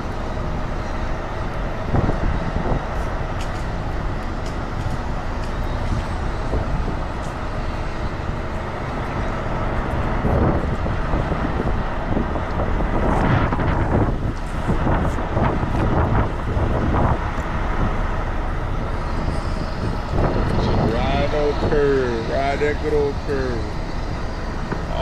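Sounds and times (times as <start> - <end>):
truck diesel engine running: 0.0 - 25.0.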